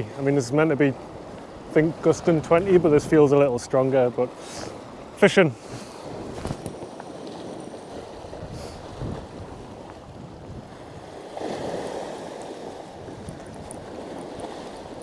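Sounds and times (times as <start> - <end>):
wind buffeting the microphone: 0.0 - 3.8, 4.7 - 15.0
sea waves washing over rocks: 0.0 - 15.0.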